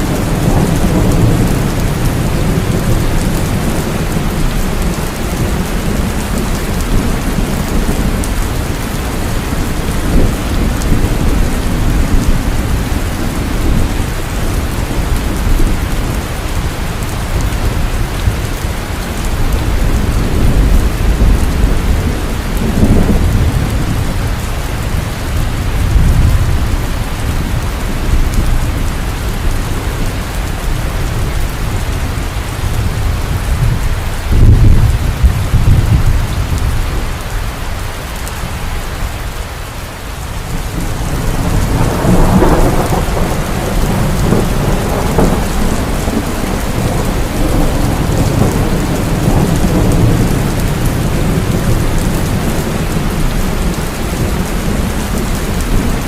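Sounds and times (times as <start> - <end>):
low rolling thunder: 0.0 - 37.5, 40.4 - 56.0
heavy rain falling: 0.0 - 56.0.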